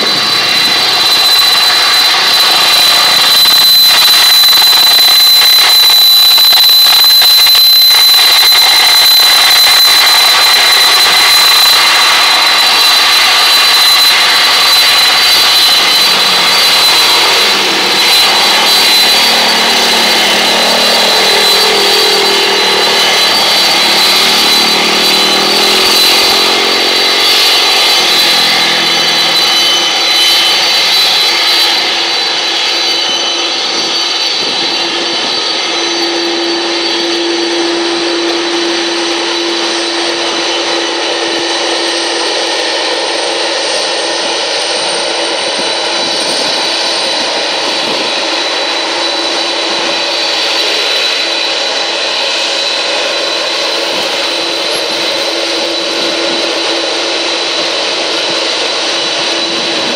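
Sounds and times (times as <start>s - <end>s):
high-pitched engine whine: 0.0s - 59.9s
jet engines running: 0.0s - 59.9s.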